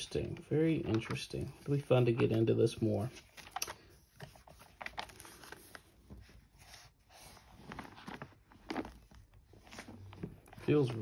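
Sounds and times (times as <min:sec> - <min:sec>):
book pages rustling: 0:00.1 - 0:11.0.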